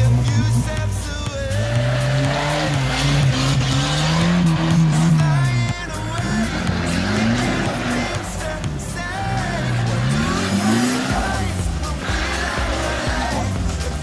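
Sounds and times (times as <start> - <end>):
off-road engines revving: 0.0 - 14.0.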